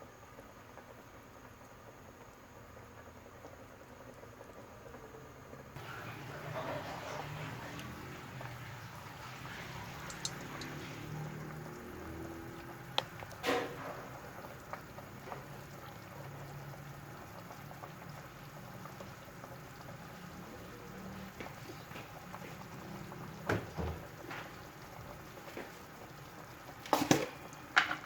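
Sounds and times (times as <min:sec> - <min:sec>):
soup boiling in a pot: 0:00.0 - 0:28.0.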